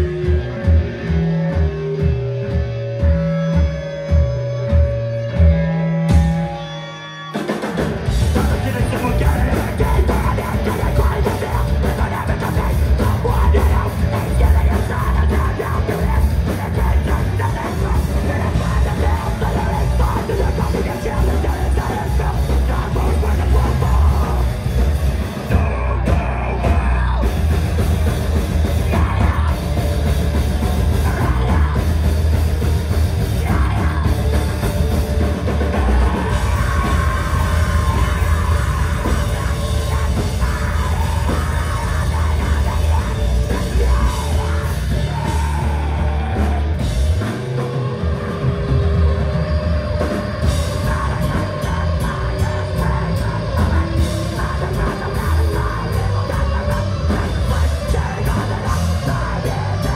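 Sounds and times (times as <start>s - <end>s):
drum kit: 0.0s - 59.9s
live rock band playing: 0.0s - 59.9s.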